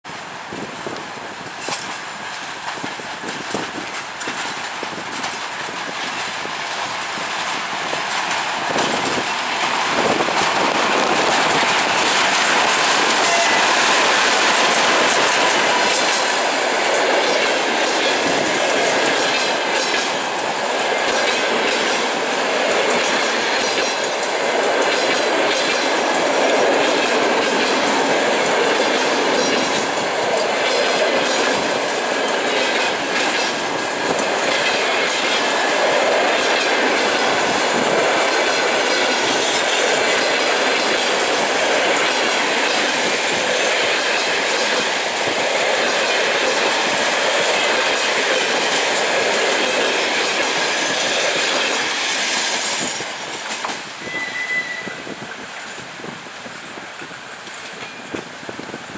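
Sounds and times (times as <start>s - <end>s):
train rolling rumble: 0.1s - 58.9s
wheels clattering over rail joints: 0.5s - 51.9s.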